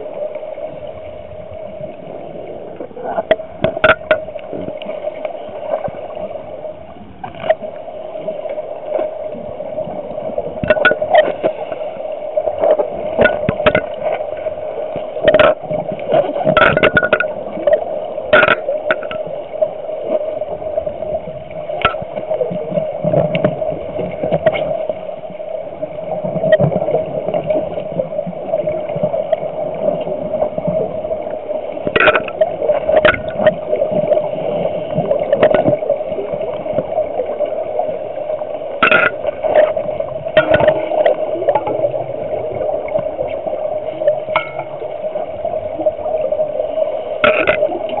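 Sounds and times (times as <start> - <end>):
steady underwater hum: 0.0 - 48.0.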